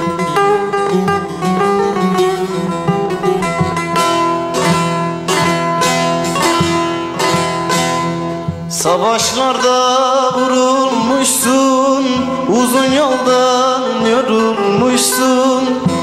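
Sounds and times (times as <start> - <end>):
long-necked lute folk melody: 0.0 - 16.0.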